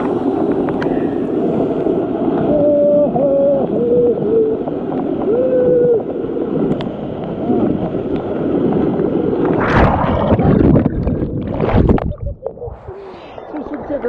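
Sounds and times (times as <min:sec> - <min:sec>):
underwater splashes and gurgles: 0:00.0 - 0:14.0.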